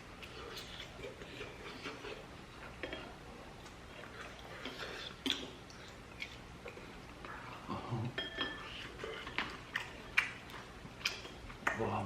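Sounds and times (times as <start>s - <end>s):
chewing crunchy food: 0.1s - 7.7s, 8.6s - 12.0s.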